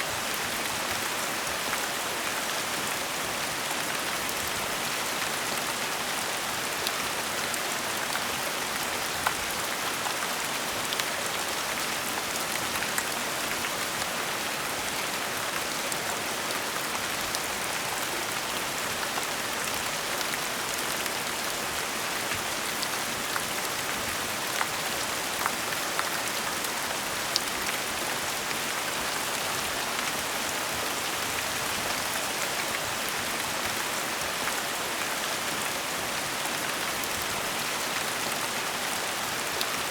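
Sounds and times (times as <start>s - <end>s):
steady gentle rain: 0.0s - 39.9s.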